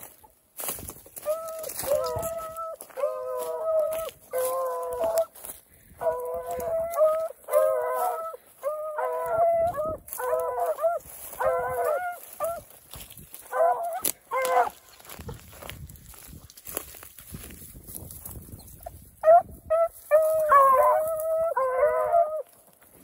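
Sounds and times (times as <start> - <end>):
hounds baying: 1.2 - 16.3, 18.7 - 22.8.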